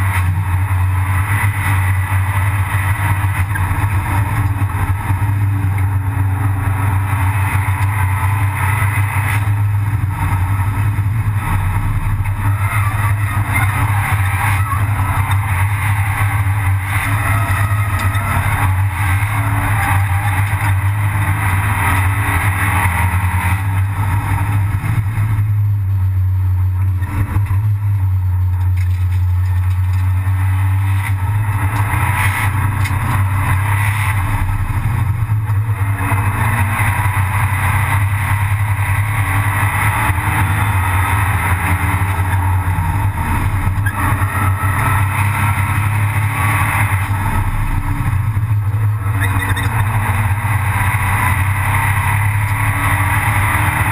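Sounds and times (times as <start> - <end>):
race car engine running hard: 0.0 - 53.9.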